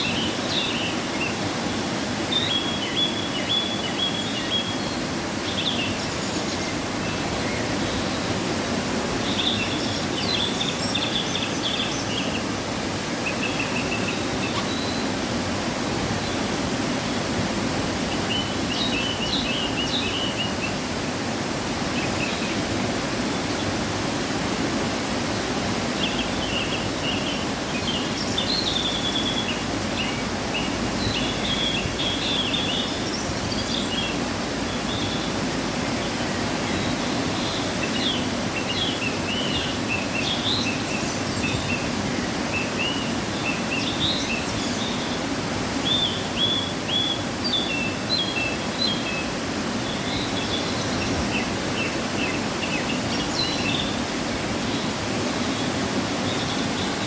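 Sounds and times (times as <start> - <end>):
small birds chirping: 0.0 - 16.6, 25.2 - 57.0
waterfall rushing: 0.0 - 57.0.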